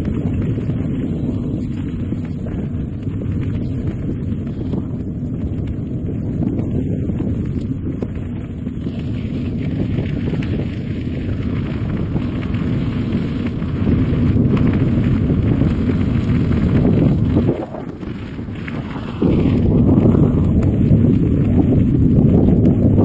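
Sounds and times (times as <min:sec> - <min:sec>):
tyres rumbling on gravel: 0:00.0 - 0:23.0
wind buffeting microphone: 0:00.0 - 0:23.0.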